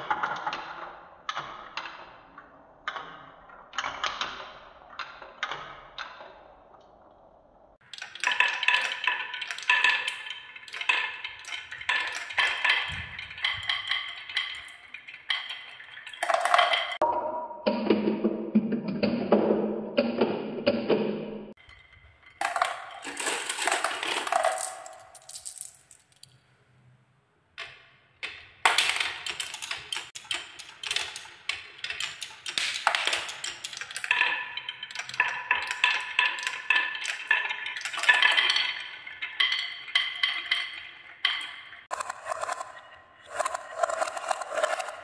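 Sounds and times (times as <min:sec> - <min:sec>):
marbles rolling and clacking: 0:00.0 - 0:17.1, 0:20.9 - 0:26.4, 0:27.6 - 0:45.0.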